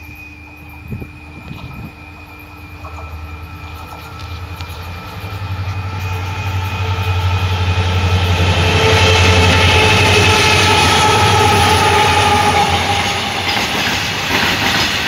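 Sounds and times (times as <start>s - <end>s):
steady higher tones: 0.0s - 14.6s
diesel locomotive engine rumble: 0.0s - 15.0s.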